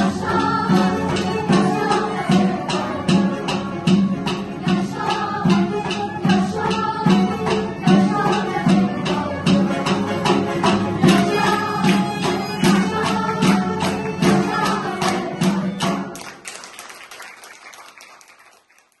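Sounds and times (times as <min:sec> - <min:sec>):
girls singing in unison: 0:00.0 - 0:10.4, 0:11.0 - 0:16.0
accordion: 0:00.0 - 0:16.0
percussion beat: 0:00.0 - 0:16.8.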